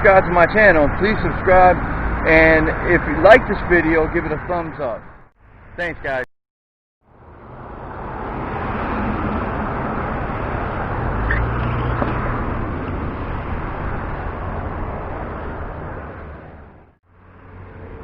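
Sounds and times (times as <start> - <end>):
road traffic rushing: 0.0 - 6.2, 7.0 - 18.0.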